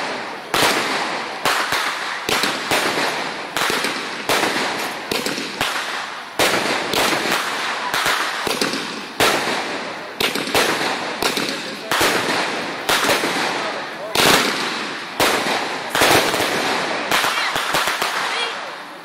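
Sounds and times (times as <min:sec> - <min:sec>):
fireworks bangs and crackle: 0:00.0 - 0:19.0.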